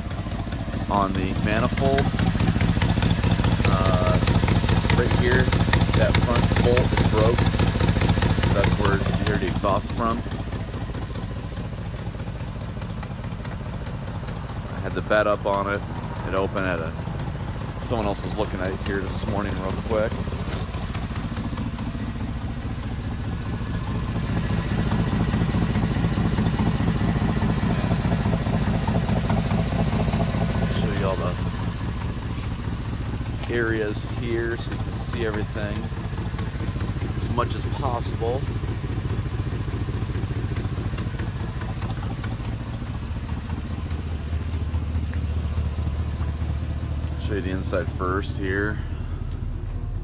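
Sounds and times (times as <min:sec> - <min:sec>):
exhaust leak ticking: 0:00.0 - 0:50.0
truck engine idling: 0:00.0 - 0:50.0.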